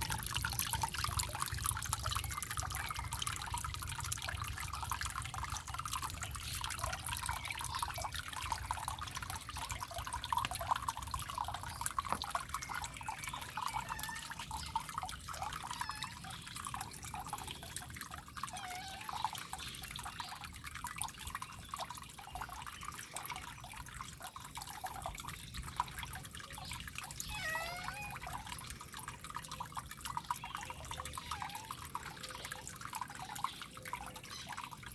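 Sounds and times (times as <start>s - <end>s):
water fountain trickling: 0.0s - 34.9s.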